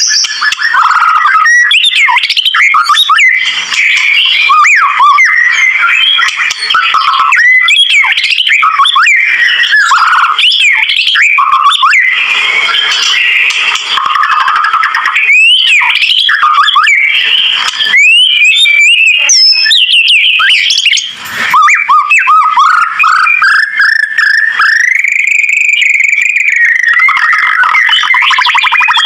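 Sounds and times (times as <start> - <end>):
bird song with clear whistles: 0.0 - 13.6, 14.2 - 29.0.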